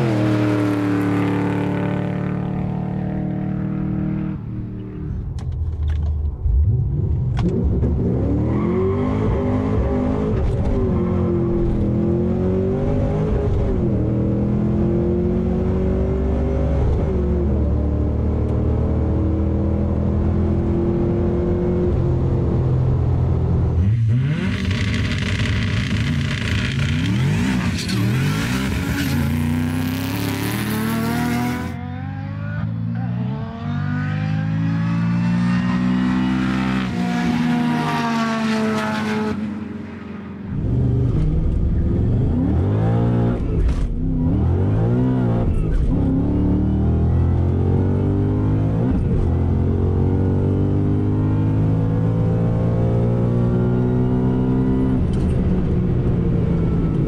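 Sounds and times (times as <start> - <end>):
car engines accelerating hard: 0.0 - 57.0.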